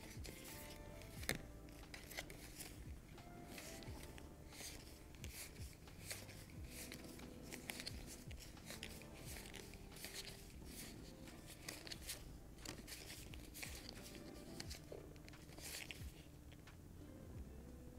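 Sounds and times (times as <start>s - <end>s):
paper cards sliding: 0.0s - 16.3s.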